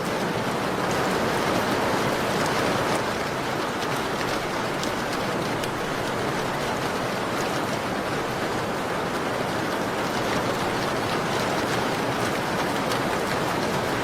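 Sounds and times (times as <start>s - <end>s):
rain on a window: 0.0s - 14.0s.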